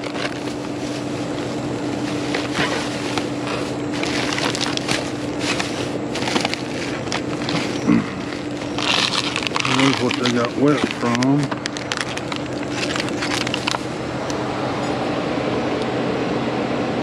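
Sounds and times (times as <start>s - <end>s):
plastic bags rustling: 0.0s - 14.3s
steady low hum: 0.0s - 17.0s.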